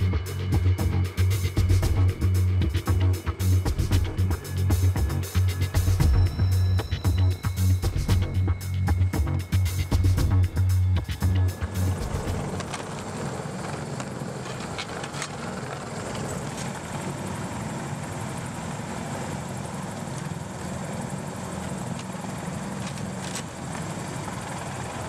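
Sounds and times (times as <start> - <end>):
helicopter engine drone: 0.0 - 25.0.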